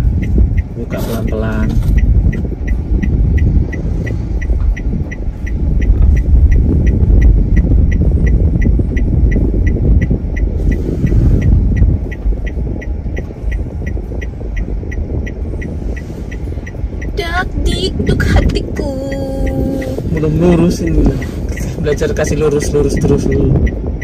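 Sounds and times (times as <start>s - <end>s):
car engine and tyres rumble: 0.0s - 24.0s
turn signal ticking: 0.0s - 24.0s.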